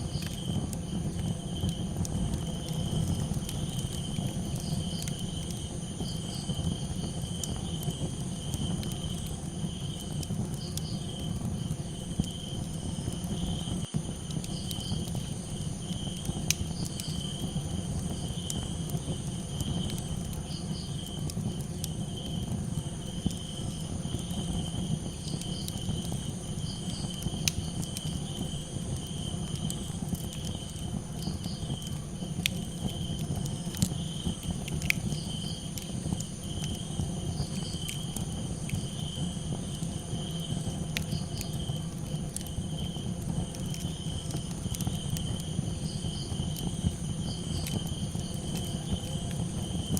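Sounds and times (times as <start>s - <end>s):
campfire rumble: 0.0s - 49.9s
crickets chirping: 0.0s - 49.9s
fire crackles and pops: 0.0s - 49.9s.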